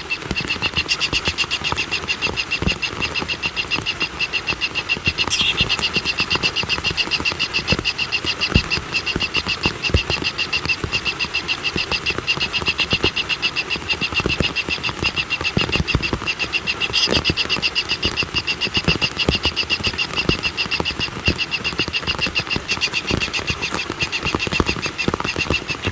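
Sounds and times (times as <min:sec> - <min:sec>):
animals pulsing calls: 0:00.0 - 0:25.9.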